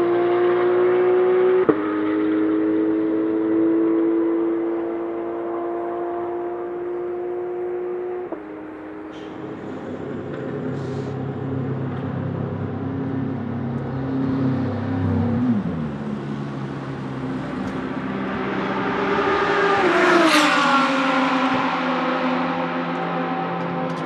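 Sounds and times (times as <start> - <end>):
race car engine passing: 0.0 - 24.0.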